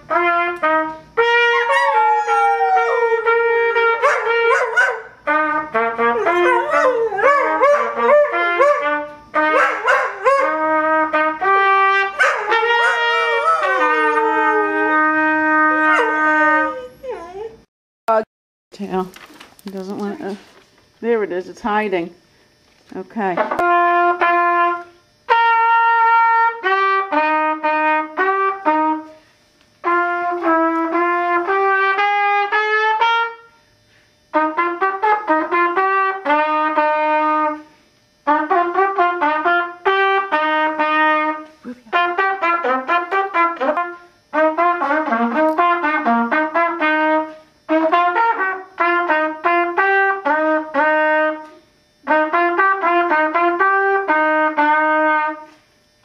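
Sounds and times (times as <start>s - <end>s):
brass instrument melody: 0.0s - 16.8s, 23.5s - 29.2s, 29.8s - 33.5s, 34.3s - 55.5s.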